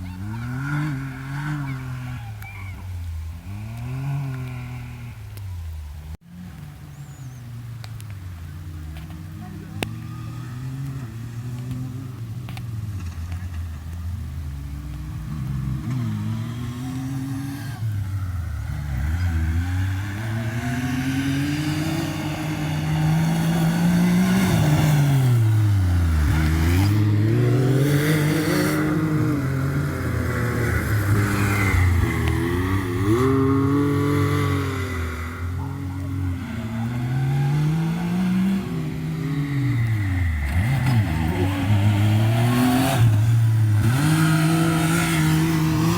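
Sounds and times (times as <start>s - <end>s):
engine revving: 0.0s - 45.9s.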